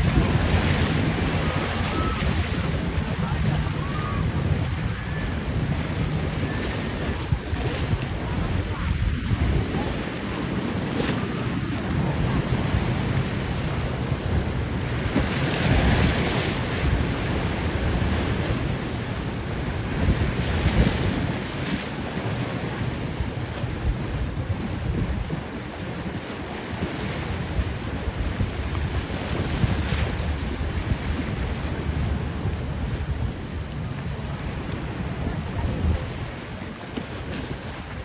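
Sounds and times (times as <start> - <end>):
waves and surf: 0.0 - 38.0
wind buffeting microphone: 0.0 - 38.0.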